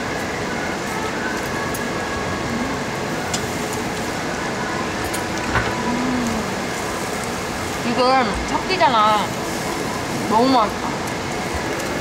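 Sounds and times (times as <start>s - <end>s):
pork sizzling on a grill: 0.0s - 12.0s.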